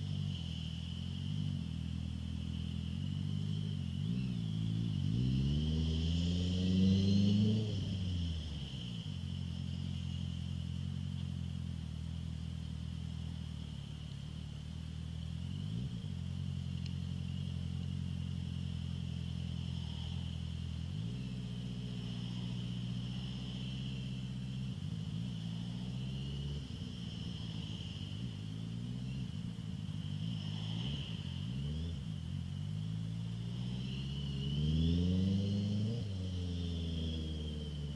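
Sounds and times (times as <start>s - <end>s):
motorcycle engine at low revs: 0.0s - 37.9s.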